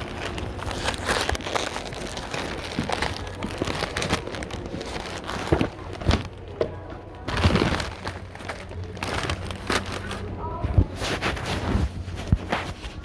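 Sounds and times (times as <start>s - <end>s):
low steady hum: 0.0s - 13.0s
rustling and crinkling: 0.0s - 13.0s.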